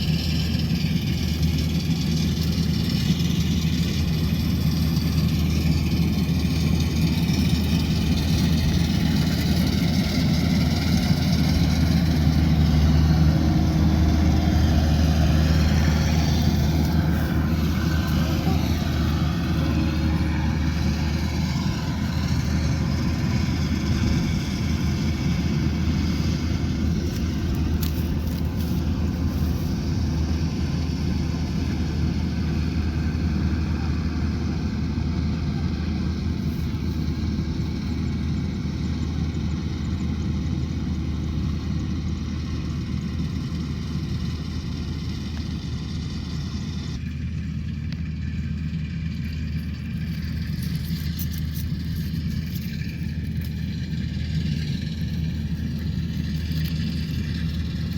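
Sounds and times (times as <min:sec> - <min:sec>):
harvester diesel engine running: 0:00.0 - 0:57.9.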